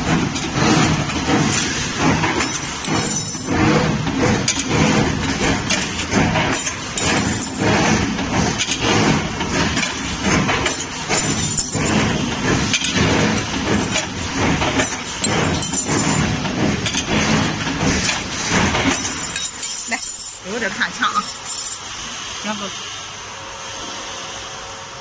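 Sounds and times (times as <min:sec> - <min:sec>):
metallic clanks and clicks: 0:00.0 - 0:21.8
wire bending machine rumble: 0:00.0 - 0:22.3.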